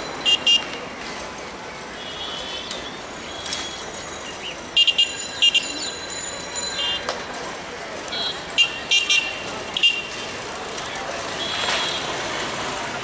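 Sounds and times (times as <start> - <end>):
railway station ambience: 0.0 - 13.0.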